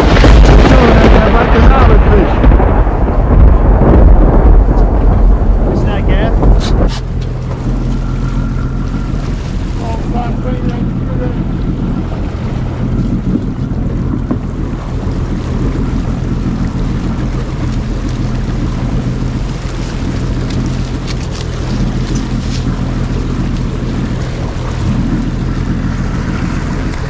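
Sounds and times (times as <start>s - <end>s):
boat engine running: 0.0s - 27.0s
water rushing past hull: 0.0s - 27.0s
wind buffeting microphone: 0.0s - 27.0s.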